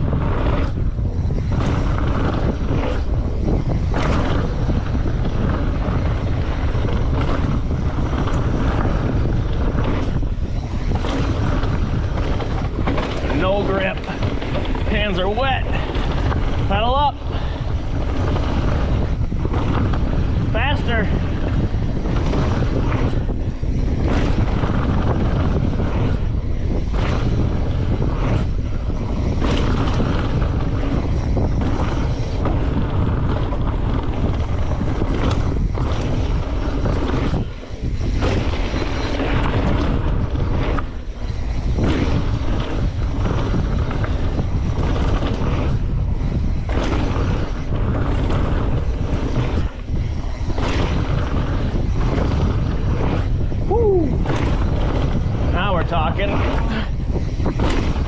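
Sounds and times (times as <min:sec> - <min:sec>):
bike knocks and rattles: 0:00.0 - 0:58.0
bike tyres rolling on dirt: 0:00.0 - 0:58.0
wind rushing over microphone: 0:00.0 - 0:58.0.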